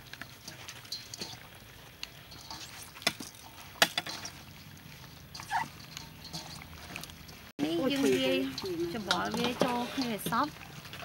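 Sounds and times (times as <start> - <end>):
food tossed in steel bowl: 0.0 - 11.0.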